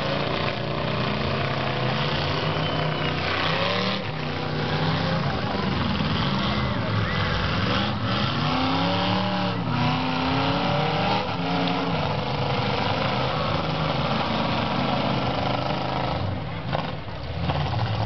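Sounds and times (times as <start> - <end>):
car engines revving hard: 0.0 - 18.0
loud engine noise: 0.0 - 18.0.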